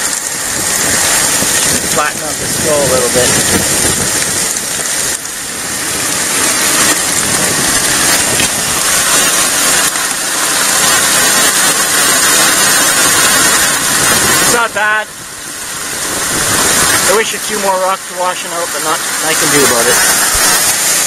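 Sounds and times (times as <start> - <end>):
gravel washing over riffles: 0.0 - 21.0
water rushing down sluice box: 0.0 - 21.0.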